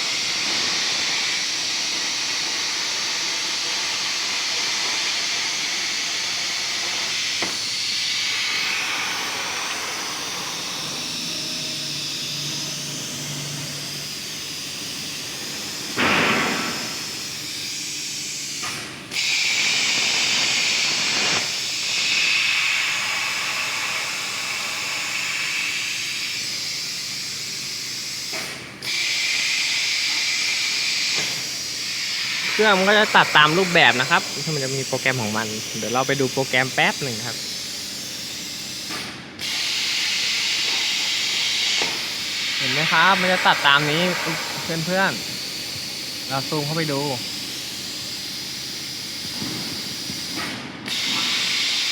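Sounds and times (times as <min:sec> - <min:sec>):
plasma cutter torch hissing: 0:00.0 - 0:10.8, 0:19.2 - 0:50.3.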